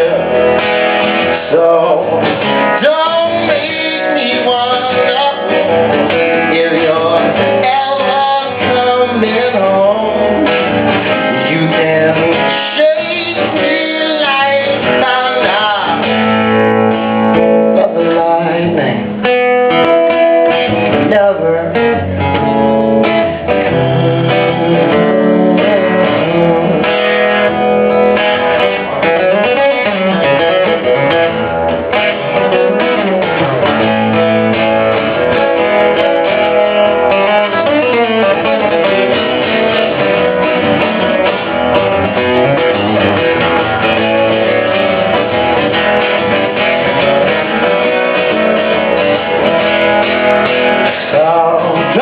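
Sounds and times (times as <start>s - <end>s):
plucked guitar instrumental: 0.0s - 52.0s.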